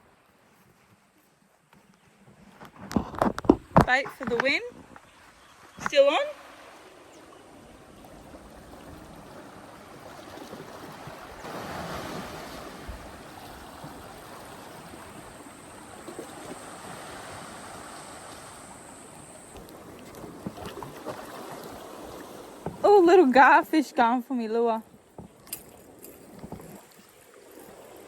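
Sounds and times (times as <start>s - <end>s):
wind: 0.0s - 28.0s
small waves washing ashore: 3.8s - 28.0s.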